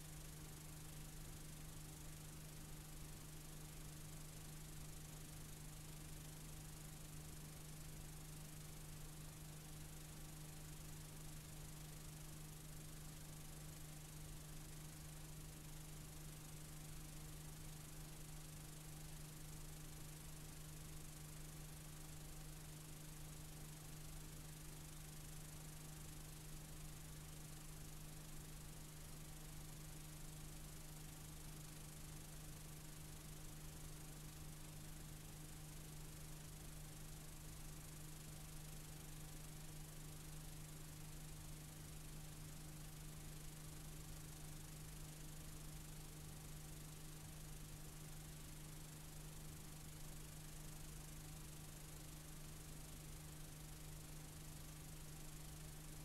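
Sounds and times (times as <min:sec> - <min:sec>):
tape hiss: 0:00.0 - 0:56.0.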